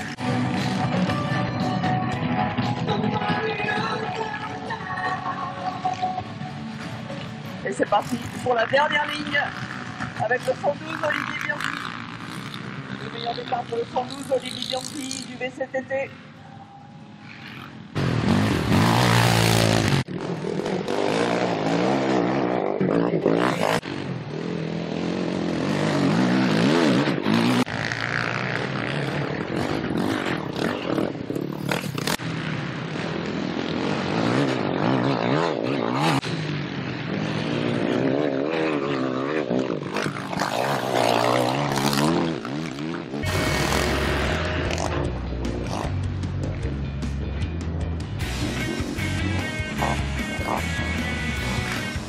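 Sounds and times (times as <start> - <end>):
quad bike engines revving: 0.0 - 52.0.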